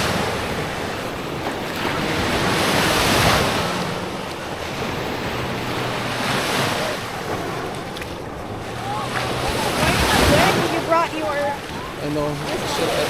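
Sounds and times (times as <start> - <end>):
waves washing on sandy beach: 0.0 - 13.0
wind buffeting microphone: 0.0 - 13.0.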